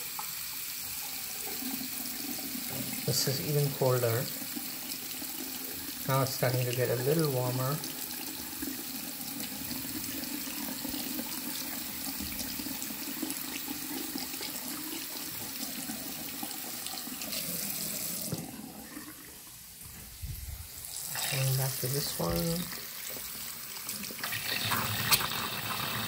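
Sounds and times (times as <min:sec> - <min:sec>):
water running from faucet: 0:00.0 - 0:19.9, 0:20.7 - 0:26.0.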